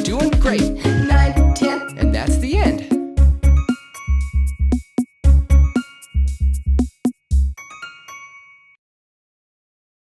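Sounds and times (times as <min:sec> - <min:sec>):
bell-like backing track notes: 0:00.0 - 0:08.8.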